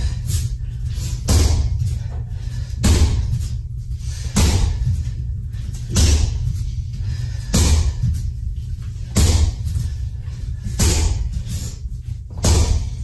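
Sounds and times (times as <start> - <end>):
kicks thudding on heavy bag: 1.1 - 3.6, 4.2 - 6.8, 7.4 - 13.0.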